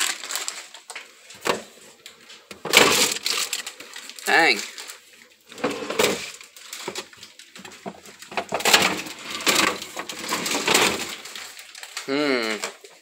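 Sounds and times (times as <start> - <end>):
food items clattering in refrigerator: 0.0 - 13.0
plastic bags crinkling: 0.0 - 13.0.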